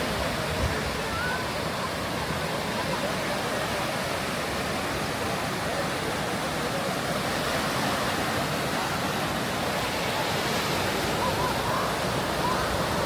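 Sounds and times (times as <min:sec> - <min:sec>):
faint voices: 0:00.0 - 0:13.0
ocean surf rushing: 0:00.0 - 0:13.0.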